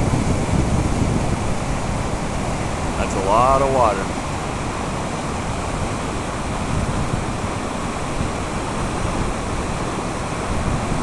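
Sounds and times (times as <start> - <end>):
floodwater rushing: 0.0 - 11.0
wind on microphone: 0.0 - 11.0.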